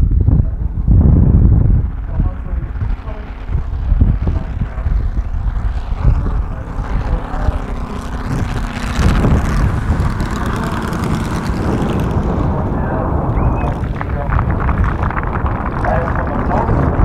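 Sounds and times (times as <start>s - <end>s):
model aircraft engine humming: 0.0s - 17.0s
wind noise on microphone: 0.0s - 17.0s.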